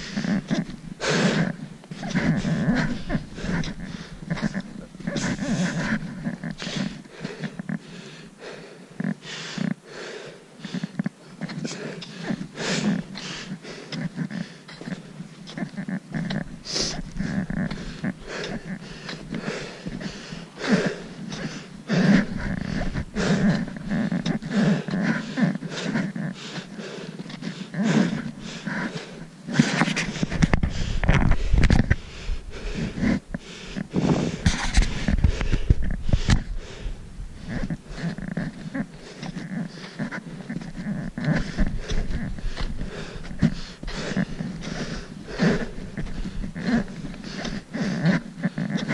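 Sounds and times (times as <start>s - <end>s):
heavy breathing: 0.0s - 48.9s.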